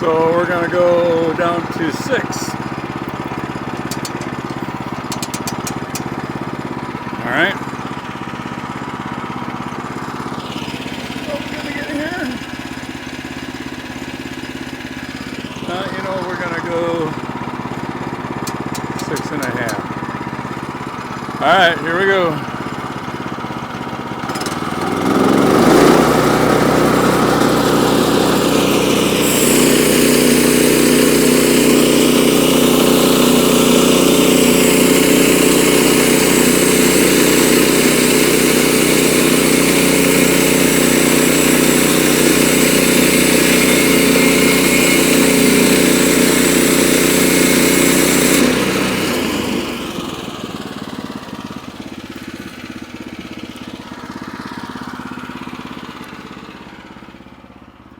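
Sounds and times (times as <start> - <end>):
band saw blade cutting log: 0.0 - 7.9, 9.9 - 22.9, 24.2 - 51.3
sawmill gas engine running: 0.0 - 57.9.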